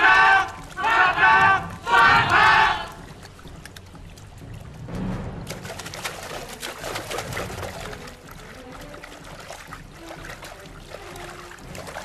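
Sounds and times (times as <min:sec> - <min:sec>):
water splashing: 0:00.0 - 0:12.0
water trickling: 0:00.0 - 0:12.0.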